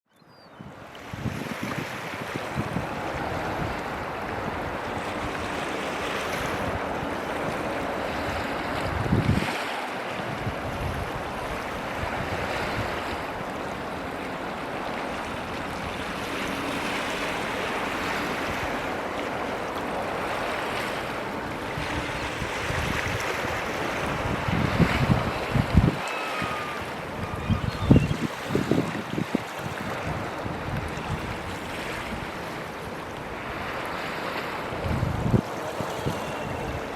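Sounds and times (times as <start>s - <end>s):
rushing wind and water: 0.1s - 36.9s
wind buffeting microphone: 0.5s - 36.9s.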